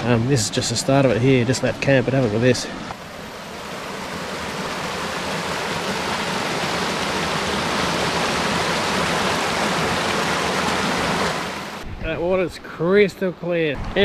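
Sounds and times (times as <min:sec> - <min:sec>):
creek water rushing and splashing: 0:00.0 - 0:11.9.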